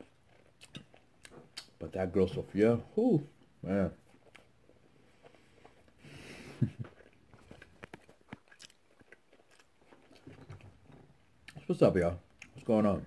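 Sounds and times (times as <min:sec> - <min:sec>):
person chewing food: 0:00.0 - 0:02.6, 0:03.3 - 0:12.6.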